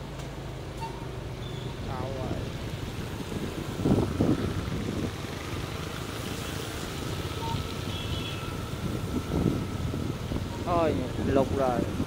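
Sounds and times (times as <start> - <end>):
motorbike engines rumbling: 0.0 - 12.0.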